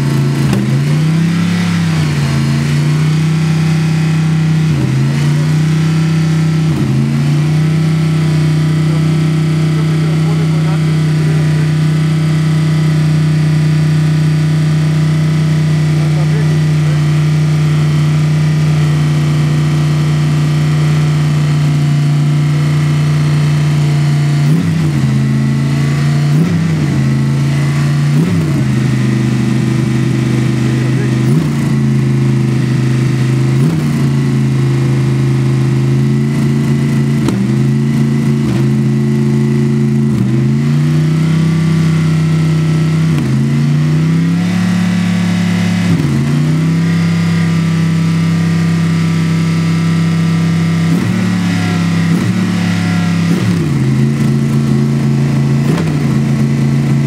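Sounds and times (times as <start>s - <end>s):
race car engine idling and revving: 0.0s - 57.0s.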